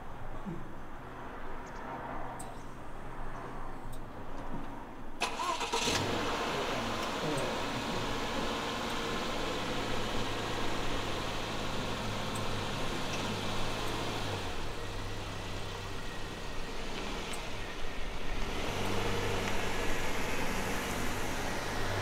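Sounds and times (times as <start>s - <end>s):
outdoor noise: 0.0s - 22.0s
vehicle engine humming: 0.0s - 22.0s.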